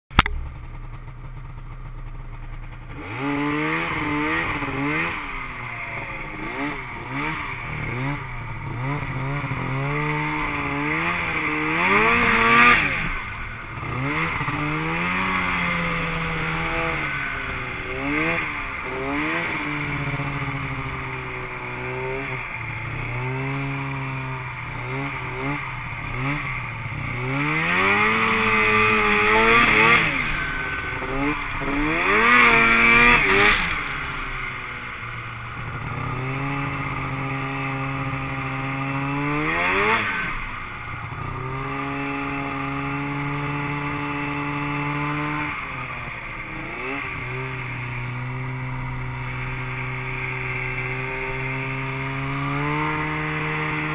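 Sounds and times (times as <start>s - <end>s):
snowmobile engine revving: 0.2s - 53.9s.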